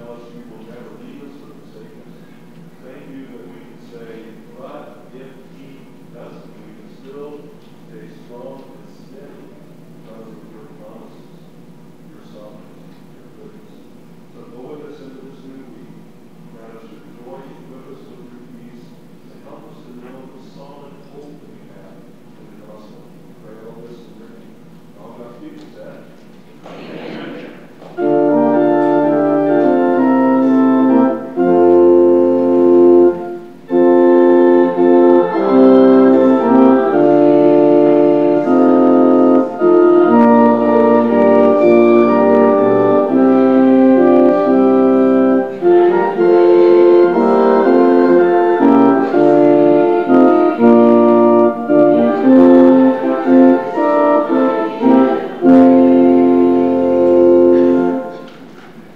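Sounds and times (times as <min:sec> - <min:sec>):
organ playing sustained chords: 0:00.0 - 0:11.3, 0:11.9 - 0:26.0, 0:27.2 - 0:58.7.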